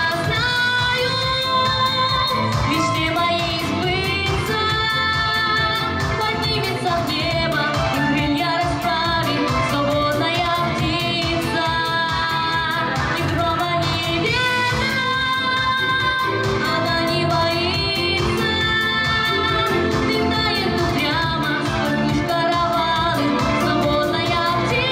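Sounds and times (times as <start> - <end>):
backing music with steady beat: 0.0 - 24.9
girl singing into microphone: 0.0 - 24.9.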